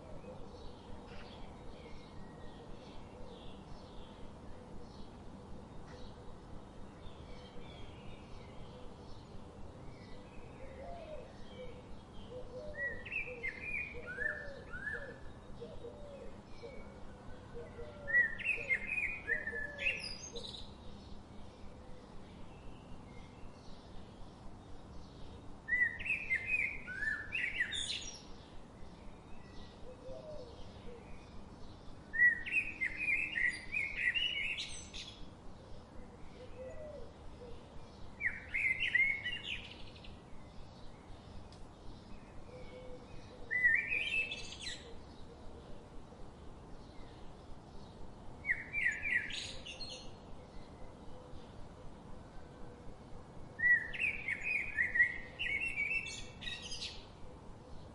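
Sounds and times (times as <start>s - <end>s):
faint forest ambience hiss: 0.0s - 57.9s
songbird singing: 0.0s - 57.9s.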